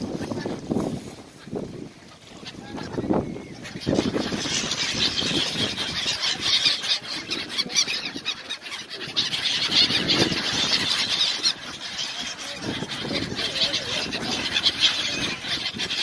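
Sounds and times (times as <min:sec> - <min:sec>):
flock of gulls calling: 0:00.0 - 0:16.0.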